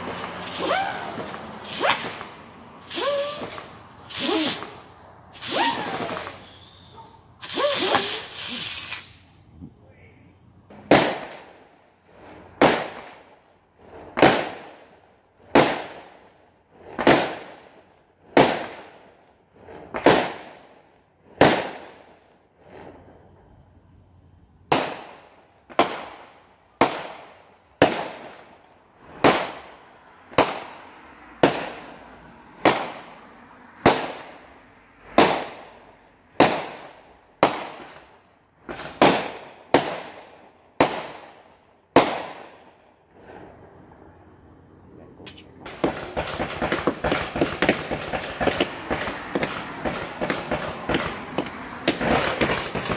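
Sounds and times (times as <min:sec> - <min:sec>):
fireworks bangs echoing: 0:00.0 - 0:23.1, 0:24.6 - 0:43.7, 0:45.2 - 0:52.9.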